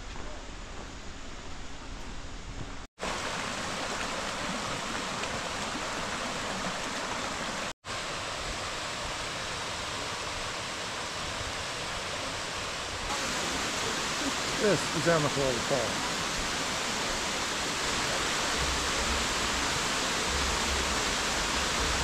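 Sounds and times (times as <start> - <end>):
mountain creek over rocks: 3.0 - 22.0.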